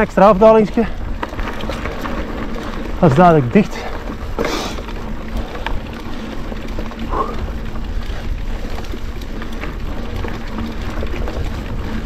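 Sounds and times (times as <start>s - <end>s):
bike tyres rolling over dirt: 0.0s - 12.0s
wind buffeting microphone: 0.0s - 12.0s.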